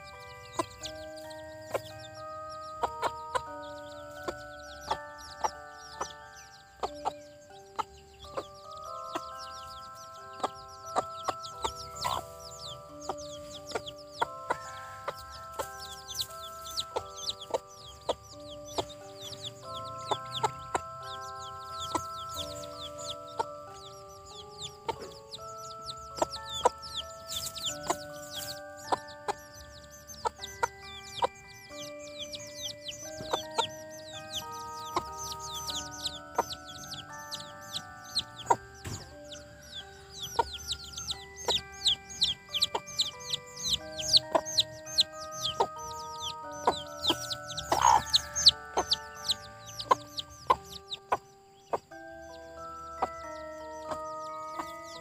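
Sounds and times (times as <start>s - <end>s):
background music of held notes: 0.0s - 55.0s
chicks peeping: 0.0s - 55.0s
hen clucking: 0.0s - 55.0s.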